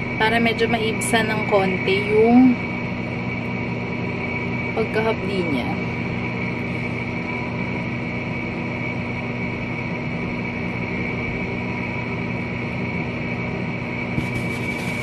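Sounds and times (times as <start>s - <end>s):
steady hum with tones: 0.0s - 15.0s.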